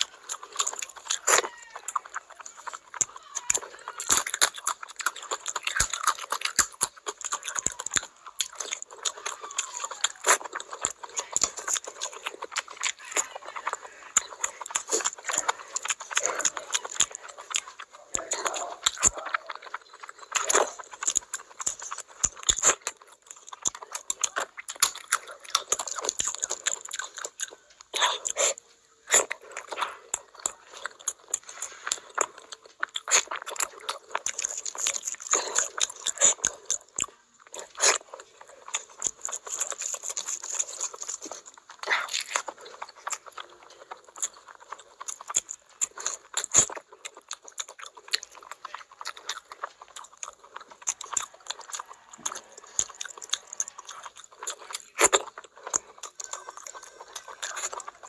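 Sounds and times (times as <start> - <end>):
wet chewing and lip-smacking: 0.0 - 58.0.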